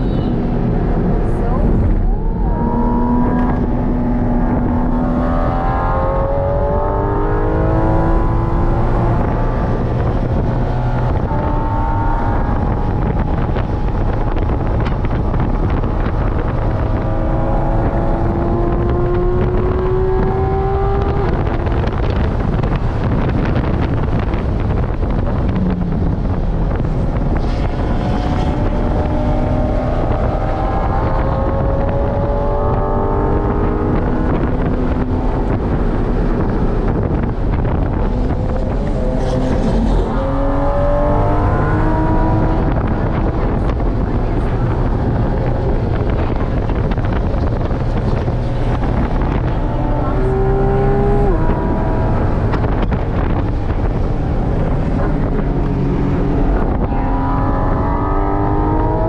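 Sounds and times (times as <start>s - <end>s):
car engine revving in cabin: 0.0s - 59.0s
wind and road noise: 0.0s - 59.0s.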